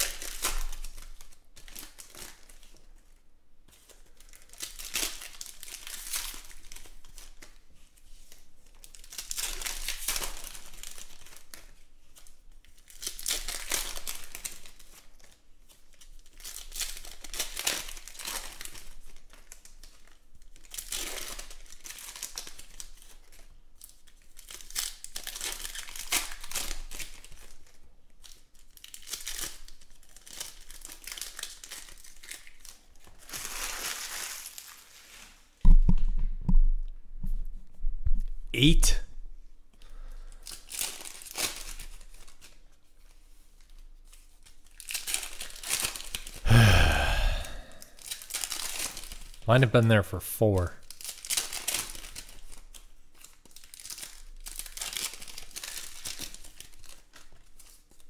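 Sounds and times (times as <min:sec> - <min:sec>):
foil wrappers crinkling and tearing: 0:00.0 - 0:35.5, 0:39.9 - 0:46.4, 0:47.8 - 0:49.4, 0:50.8 - 0:58.0.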